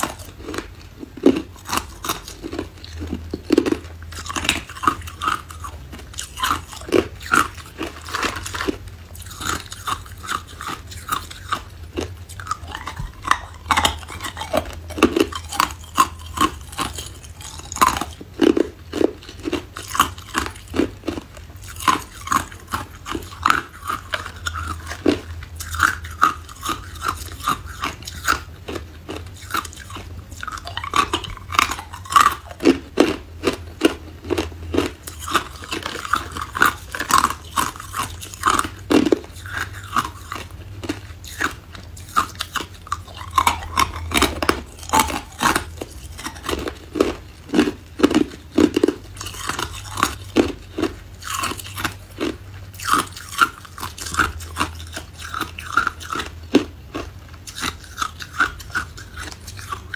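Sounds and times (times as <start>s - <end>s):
person crunching ice: 0.0s - 59.9s.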